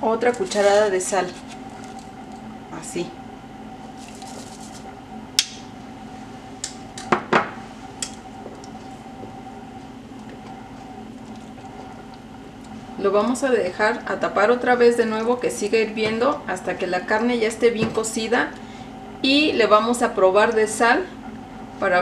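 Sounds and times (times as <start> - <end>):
low hum: 0.0 - 21.6.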